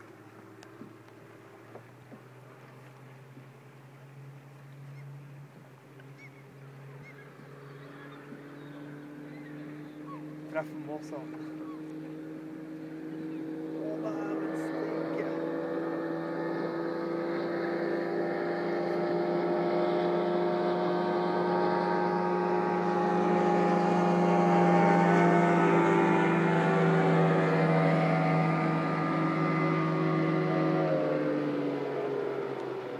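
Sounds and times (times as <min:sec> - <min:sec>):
motorboat engine droning: 0:00.0 - 0:32.9.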